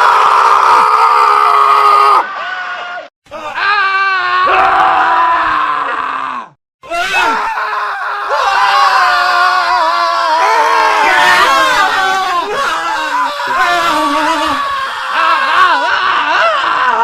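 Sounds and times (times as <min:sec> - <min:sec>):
men screaming: 0:00.0 - 0:17.0.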